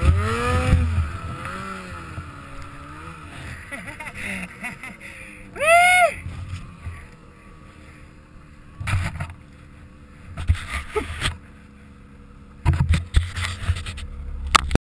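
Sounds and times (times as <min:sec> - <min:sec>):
snowmobile ride noise: 0:00.0 - 0:14.8.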